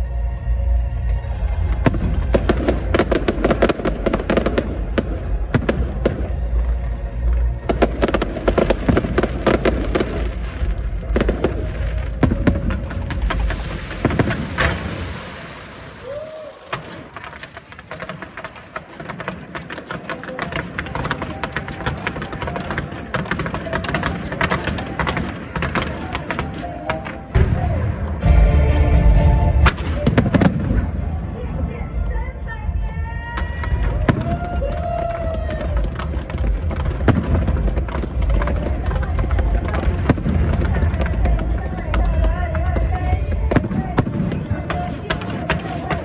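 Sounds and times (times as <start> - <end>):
fireworks crackling and popping: 0.1 - 46.0
deep firework booms: 7.7 - 31.7, 32.6 - 46.0.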